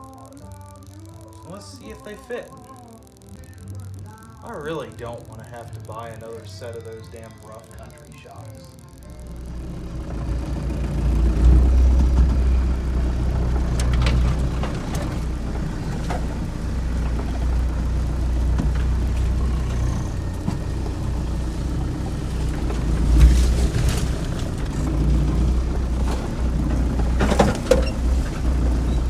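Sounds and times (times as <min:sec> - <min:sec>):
vehicle engine humming: 0:00.0 - 0:29.0.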